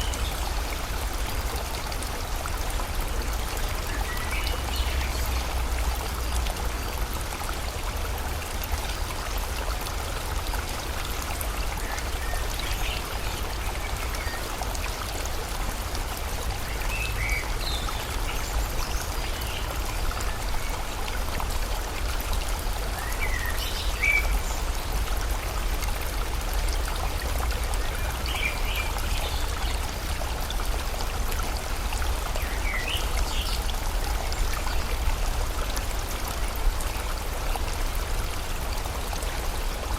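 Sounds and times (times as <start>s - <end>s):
flowing river water: 0.0s - 39.9s.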